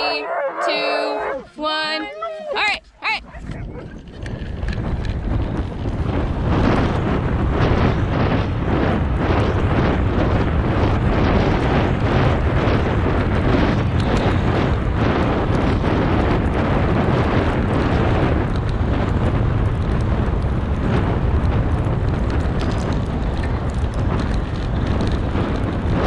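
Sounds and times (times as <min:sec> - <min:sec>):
wind buffeting microphone: 0:00.0 - 0:26.0
bicycle tyre rolling on dirt: 0:03.3 - 0:26.0.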